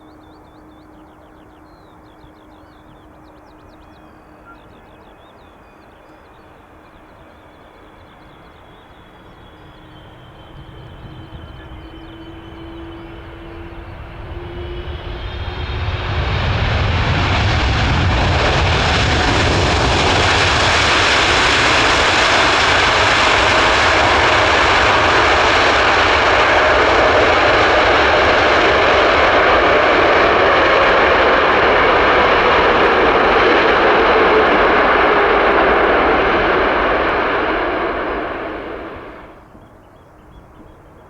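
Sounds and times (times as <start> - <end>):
jet engine roar: 0.0 - 39.6.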